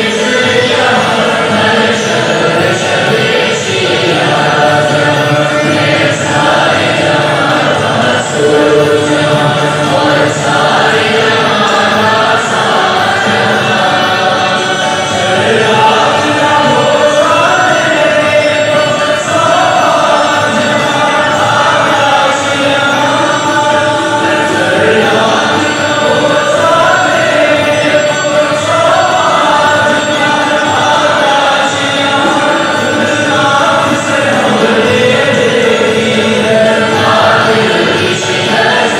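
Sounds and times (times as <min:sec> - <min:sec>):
group of voices chanting: 0:00.0 - 0:38.9.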